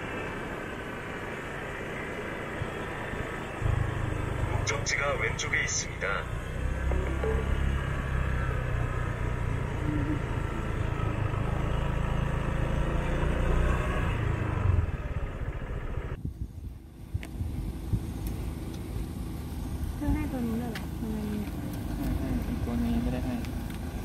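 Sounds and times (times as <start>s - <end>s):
motorcycle engine: 0.0s - 24.0s
road noise: 0.0s - 24.0s.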